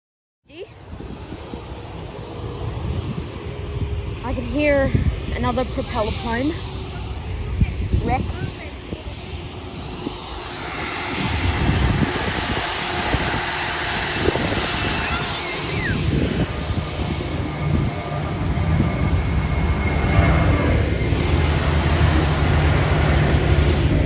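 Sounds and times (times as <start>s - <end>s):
propeller plane engines droning: 0.5s - 24.0s.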